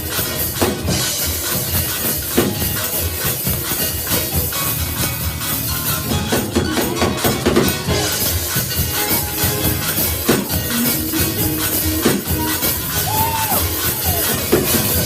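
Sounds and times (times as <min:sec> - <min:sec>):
church praise music: 0:00.0 - 0:15.0.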